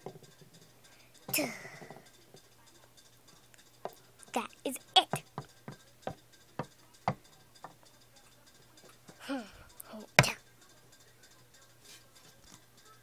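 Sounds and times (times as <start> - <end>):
plastic toys clicking on wooden floor: 0.0 - 11.0.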